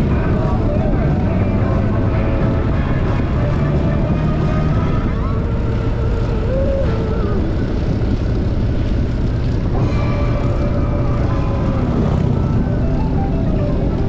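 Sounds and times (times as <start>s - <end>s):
motorcycle engine rumble: 0.0s - 14.0s
music playing: 0.0s - 14.0s
wind rush: 0.0s - 14.0s.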